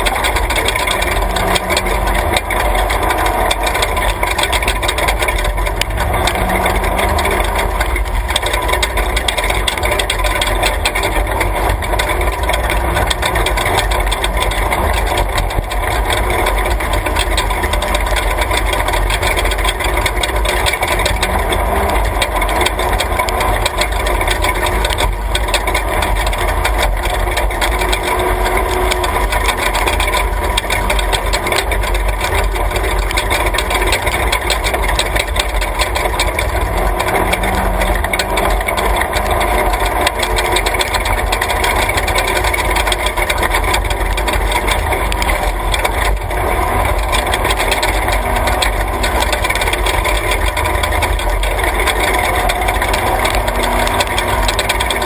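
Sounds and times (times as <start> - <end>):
chassis rattling and knocking: 0.0 - 55.0
road noise: 0.0 - 55.0
truck engine running: 0.0 - 55.0.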